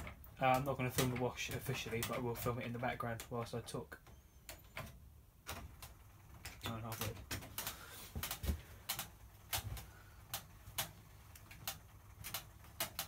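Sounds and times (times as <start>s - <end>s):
washing machine ticking: 0.0s - 13.0s.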